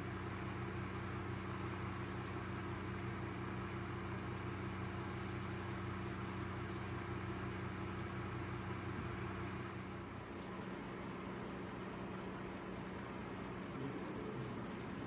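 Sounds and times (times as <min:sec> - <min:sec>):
circulating water hiss: 0:00.0 - 0:15.0.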